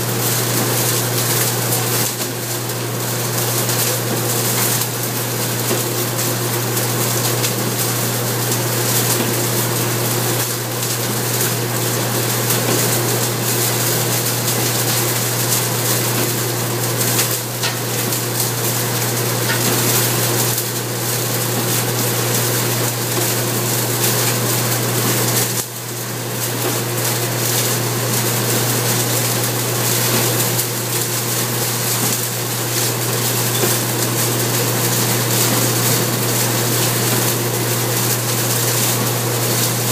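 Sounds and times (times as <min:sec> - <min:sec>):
straw shredder whirring: 0:00.0 - 0:39.9.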